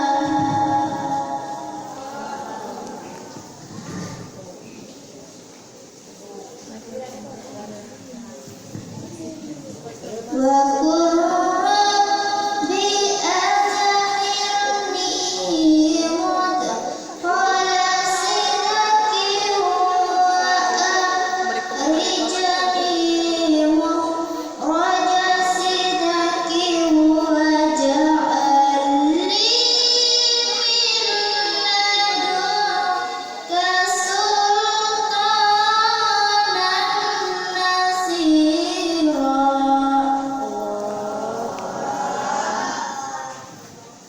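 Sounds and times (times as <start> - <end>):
girl chanting recitation: 0.0 - 4.4, 8.5 - 44.0.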